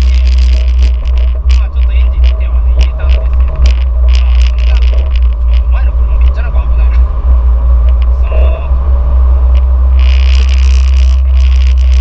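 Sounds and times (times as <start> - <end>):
car engine low rumble: 0.0 - 12.0
road noise hiss: 0.0 - 12.0.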